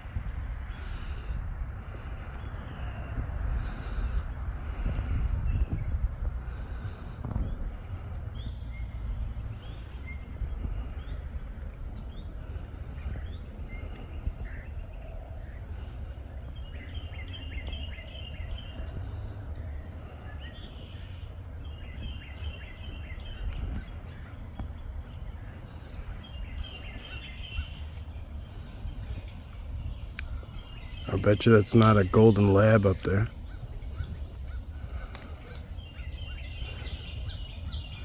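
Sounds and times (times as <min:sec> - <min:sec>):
wind rumble on microphone: 0:00.0 - 0:31.3, 0:33.3 - 0:38.0.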